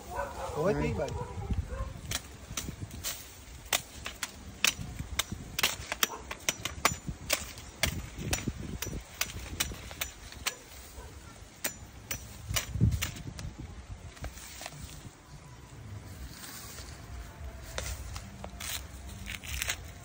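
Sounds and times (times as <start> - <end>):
rustling leaves: 0.0 - 20.0
sickle cutting corn stalks: 2.0 - 13.5, 14.1 - 15.2, 16.1 - 20.0.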